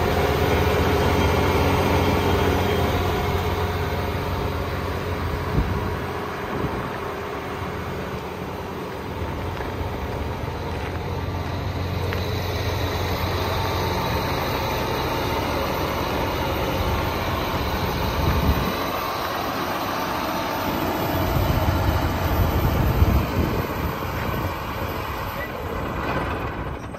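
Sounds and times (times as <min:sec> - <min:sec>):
tractor diesel engine idling: 0:00.0 - 0:26.9.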